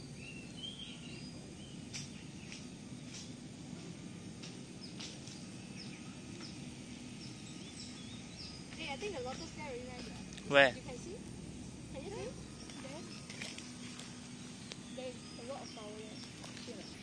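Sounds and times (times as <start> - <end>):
birds chirping: 0.0 - 17.0
low background rumble: 0.0 - 17.0.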